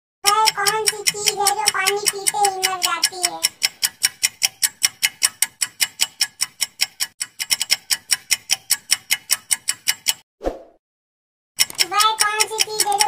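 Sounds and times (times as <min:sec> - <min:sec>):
fast clock ticking: 0:00.2 - 0:10.2, 0:11.6 - 0:13.0.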